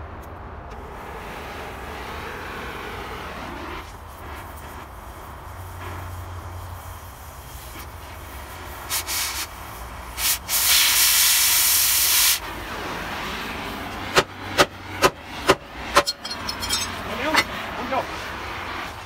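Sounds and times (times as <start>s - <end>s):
cutting torch hissing: 0.8s - 19.0s.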